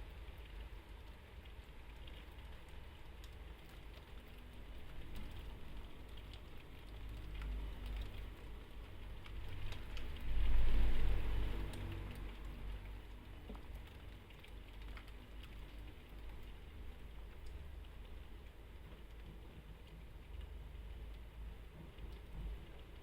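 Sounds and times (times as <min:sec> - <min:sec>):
rain drops ticking on window: 0:00.0 - 0:23.0
city traffic rumble: 0:01.9 - 0:23.0.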